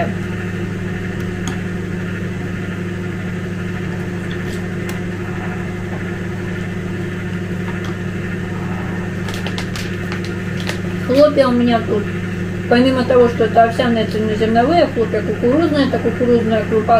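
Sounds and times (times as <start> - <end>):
electrical hum: 0.0 - 16.9.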